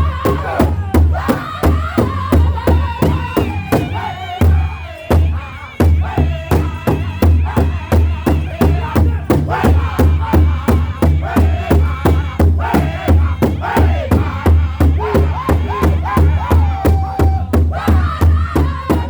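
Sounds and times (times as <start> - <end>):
high-pitched group singing: 0.0 - 19.0
large drum beating: 0.0 - 19.0.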